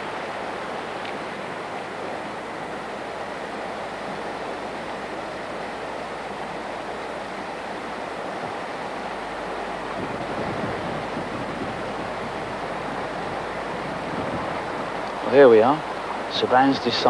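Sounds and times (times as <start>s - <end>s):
river water rushing over rapids: 0.0s - 17.0s.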